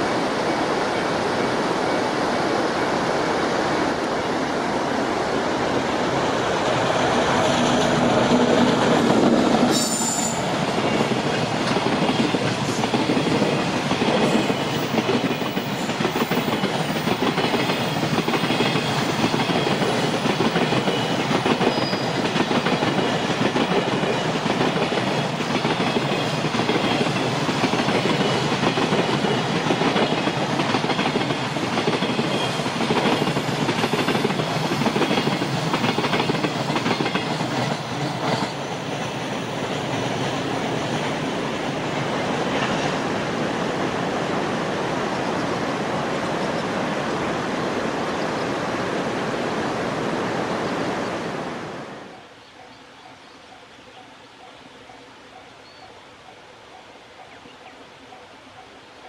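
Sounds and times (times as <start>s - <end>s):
train wheels on rails: 0.0s - 47.6s.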